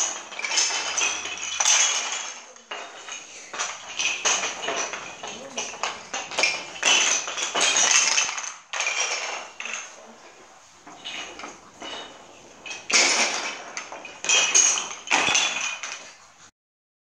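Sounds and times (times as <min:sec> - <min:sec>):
wooden sticks clattering on floor: 0:00.0 - 0:16.5.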